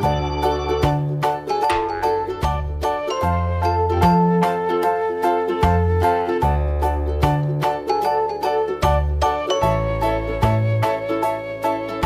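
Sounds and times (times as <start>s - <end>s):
light background music tune: 0.0s - 12.0s.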